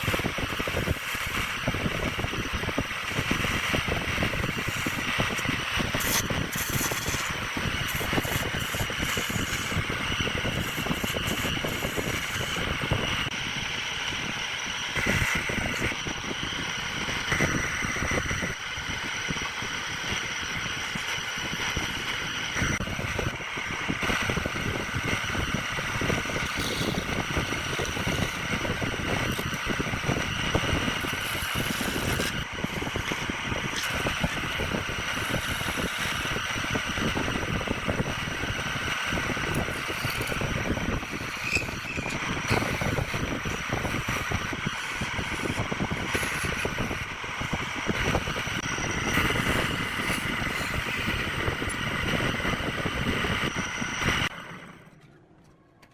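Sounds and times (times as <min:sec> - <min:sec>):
turning tool scraping wood: 0:00.0 - 0:54.4
wood lathe whine: 0:00.0 - 0:55.1.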